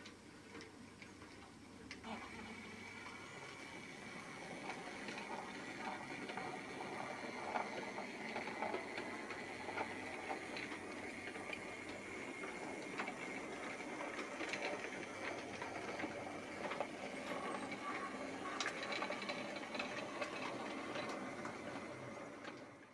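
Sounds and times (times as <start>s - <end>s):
wheels clicking over rail joints: 0.0s - 22.9s
model train motor whirring: 1.8s - 22.9s.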